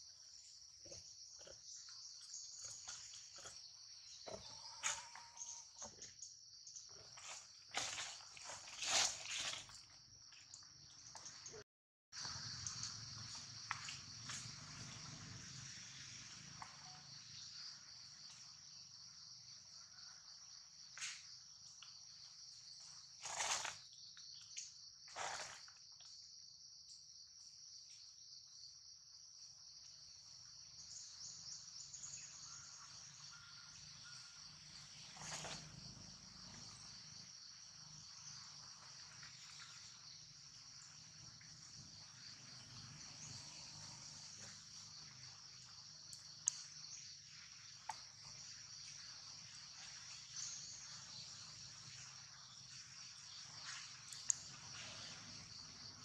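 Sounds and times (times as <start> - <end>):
insects chirring: 0.0 - 11.6, 12.2 - 56.0.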